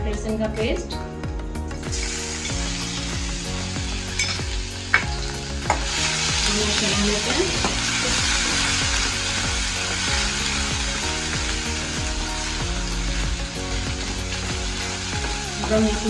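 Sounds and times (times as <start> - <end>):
paste sizzling in hot ghee: 1.8 - 16.0.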